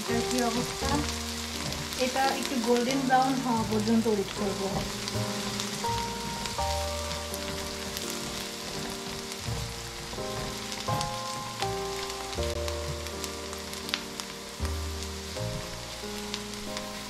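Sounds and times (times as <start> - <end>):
onions sizzling in oil: 0.0 - 17.0
soft background music: 0.0 - 17.0.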